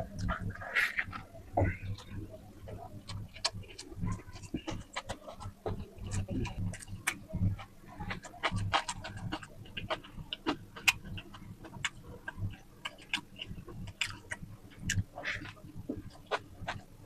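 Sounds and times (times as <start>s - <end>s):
person chewing and smacking food: 0.0s - 17.0s.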